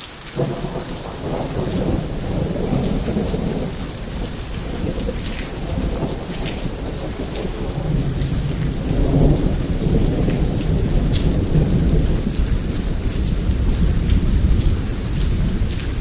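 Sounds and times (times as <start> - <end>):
heavy rain falling: 0.0 - 16.0
thunder rumbling: 0.4 - 16.0.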